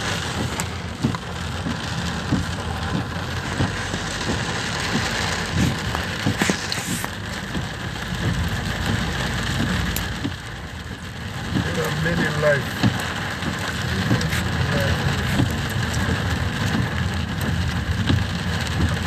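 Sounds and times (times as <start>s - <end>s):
car driving on wet road: 0.0s - 19.0s
heavy rain on car roof: 0.0s - 19.0s.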